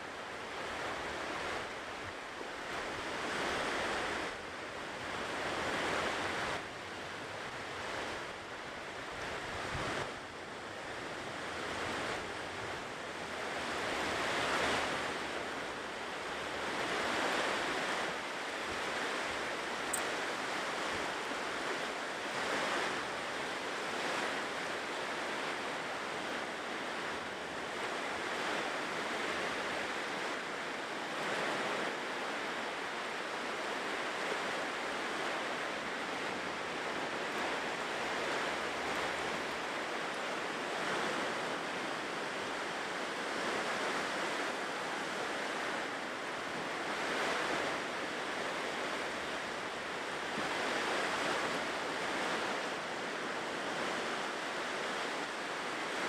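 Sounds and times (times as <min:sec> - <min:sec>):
ocean surf washing onto shore: 0:00.0 - 0:56.0.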